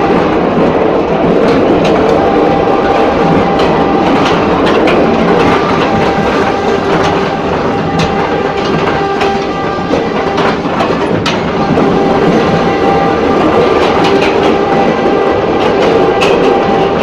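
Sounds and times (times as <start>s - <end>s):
rail-joint clicks: 0.0s - 17.0s
train rumbling on track: 0.0s - 17.0s.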